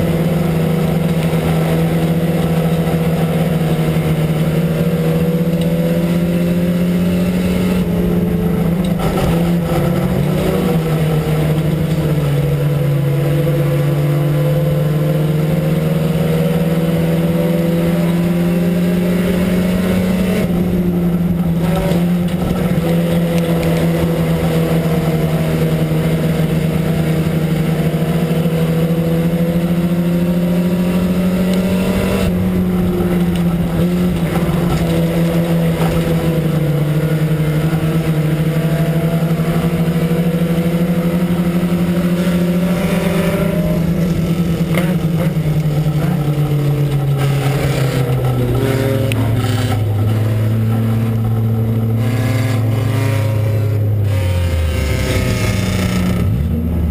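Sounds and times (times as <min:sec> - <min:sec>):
race car engine at high revs: 0:00.0 - 0:56.9.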